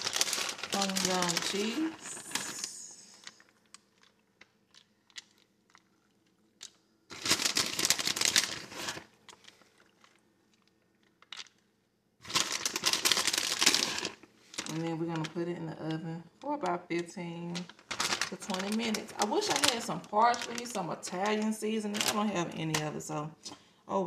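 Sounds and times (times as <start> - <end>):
packaging crinkling: 0.0 - 15.4, 17.4 - 23.1.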